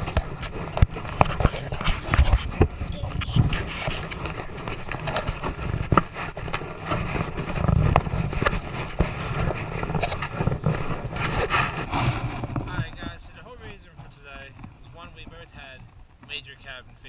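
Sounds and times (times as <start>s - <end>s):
crunches and knocks: 0.0s - 16.4s
wind buffeting microphone: 0.0s - 17.0s.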